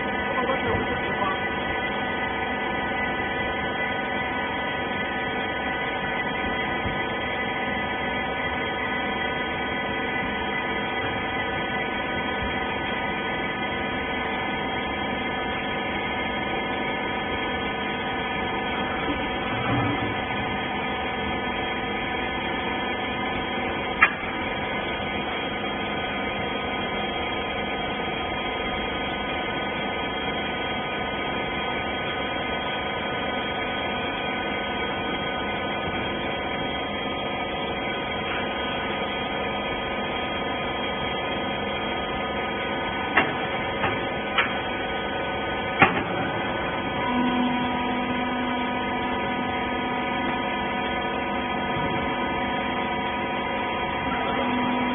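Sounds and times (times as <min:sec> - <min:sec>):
hydraulic motor and pump humming: 0:00.0 - 0:54.9.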